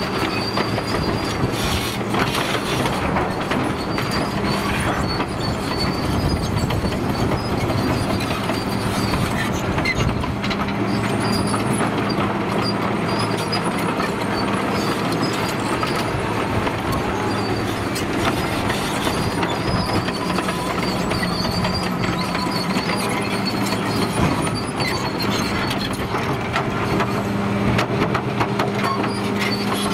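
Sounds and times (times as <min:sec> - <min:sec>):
diesel engine running: 0:00.0 - 0:29.9
steel tracks clanking: 0:00.0 - 0:29.9.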